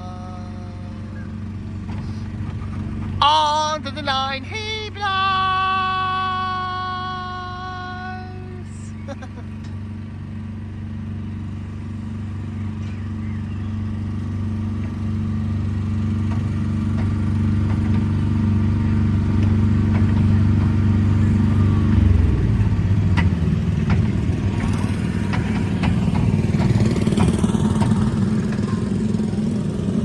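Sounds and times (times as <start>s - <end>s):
ride car humming on track: 0.0s - 30.0s.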